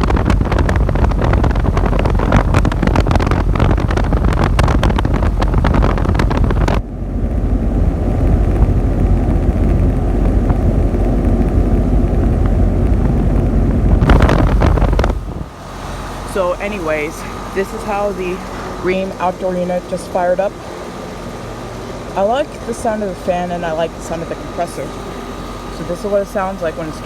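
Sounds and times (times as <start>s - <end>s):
air conditioner unit humming: 0.0s - 27.0s
wind rushing over microphone: 0.0s - 27.0s.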